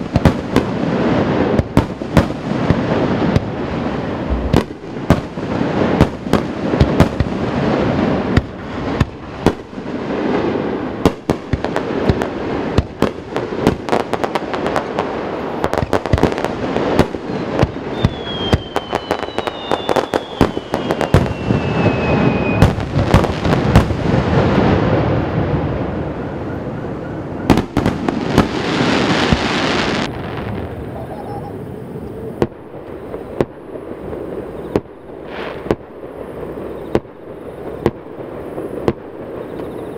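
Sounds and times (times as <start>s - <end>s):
falling fireworks whistles: 0.0s - 39.9s
fireworks bangs and crackles: 0.0s - 39.9s.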